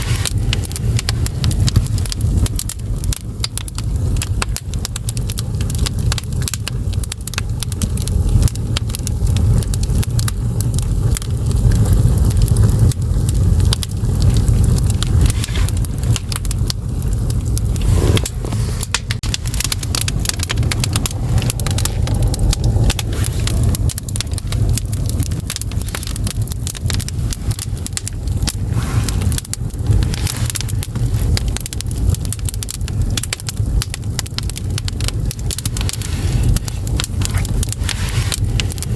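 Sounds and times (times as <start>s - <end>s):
firewood crackling and popping: 0.0s - 38.9s
low fire rumble: 0.0s - 38.9s.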